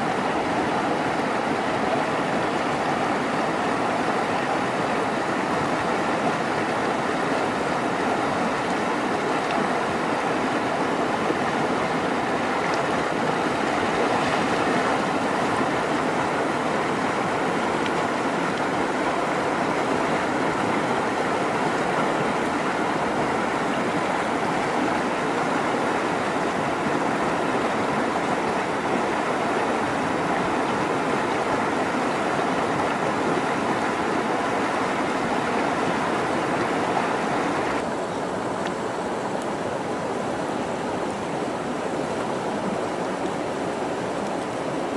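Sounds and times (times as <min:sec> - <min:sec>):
stream rushing over boulders: 0:00.0 - 0:44.9.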